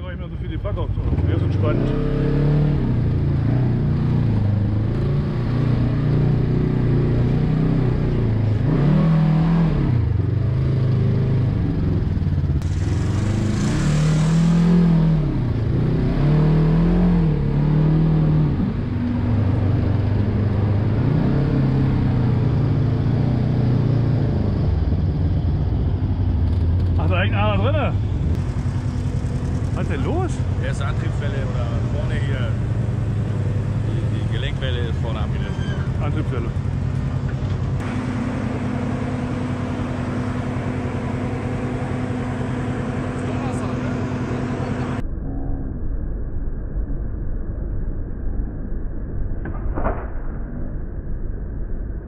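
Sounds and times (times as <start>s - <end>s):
buggy engine revving: 0.0s - 45.0s.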